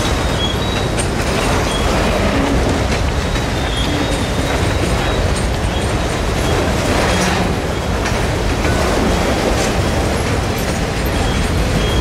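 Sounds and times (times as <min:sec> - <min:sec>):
freight cars rumbling on rails: 0:00.0 - 0:12.0.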